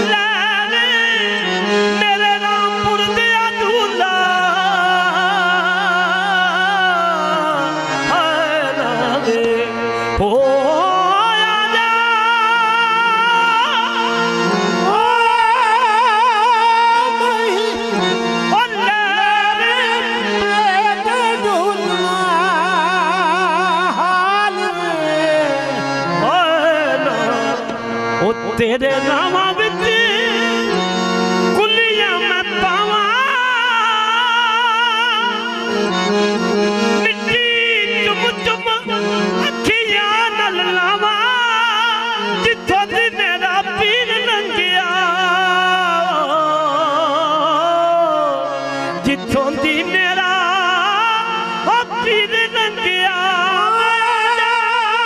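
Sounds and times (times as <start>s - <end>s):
harmonium melody: 0.0s - 55.0s.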